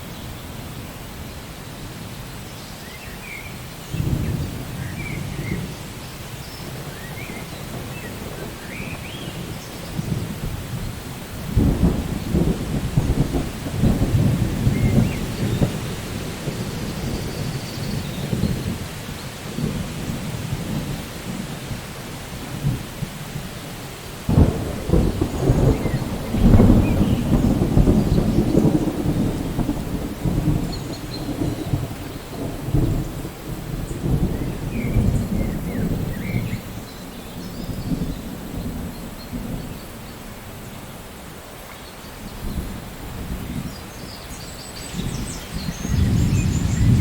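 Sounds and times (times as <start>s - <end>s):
steady rain: 0.0s - 47.0s
rolling thunder: 3.8s - 23.6s, 24.2s - 40.8s, 42.3s - 47.0s.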